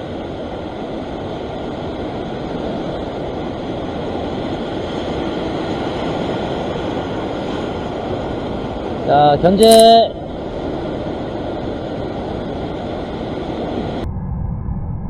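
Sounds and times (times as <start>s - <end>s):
waves breaking on rocks: 0.0s - 13.3s.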